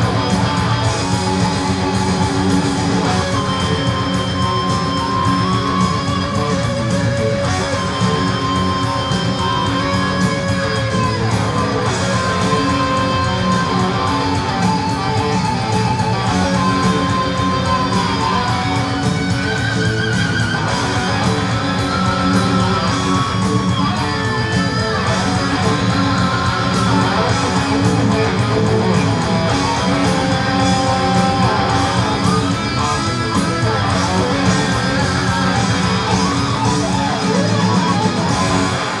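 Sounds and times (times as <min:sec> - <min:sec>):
guitar-driven rock music: 0:00.0 - 0:39.0.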